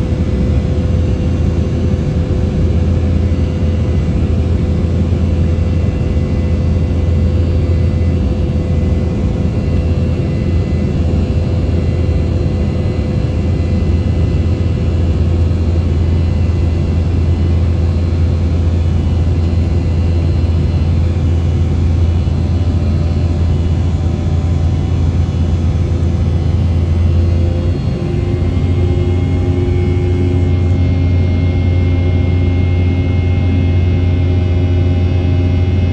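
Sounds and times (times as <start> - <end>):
airliner cabin engine drone: 0.0 - 35.9.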